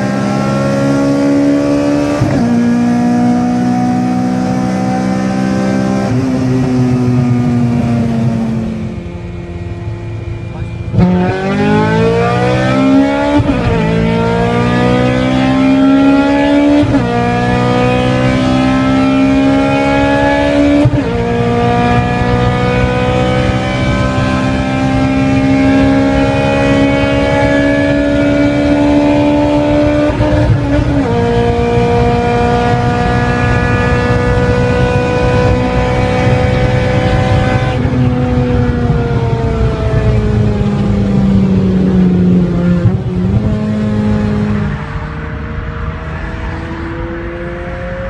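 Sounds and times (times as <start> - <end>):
car engine accelerating through gears: 0.0 - 48.0.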